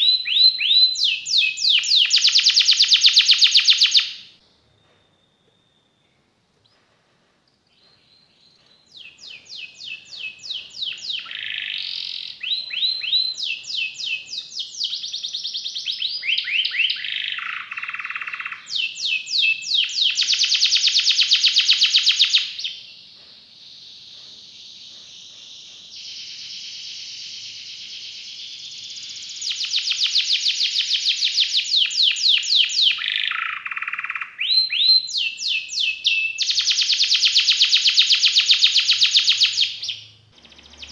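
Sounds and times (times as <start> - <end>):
canary singing trills: 0.0 - 4.3, 8.1 - 40.9.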